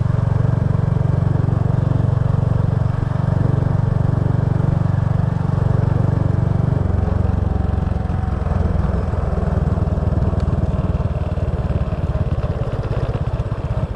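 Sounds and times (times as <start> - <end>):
motorbike engine running: 0.0 - 13.9.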